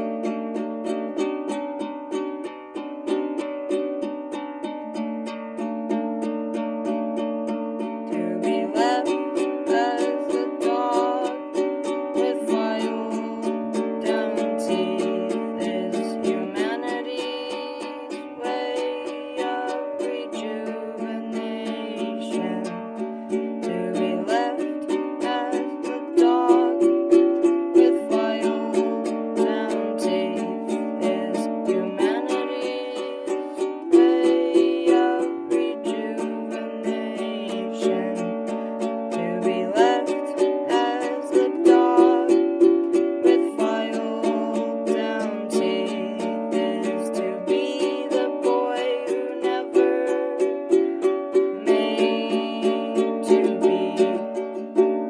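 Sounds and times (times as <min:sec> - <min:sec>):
acoustic strings strummed: 0:00.0 - 0:55.0.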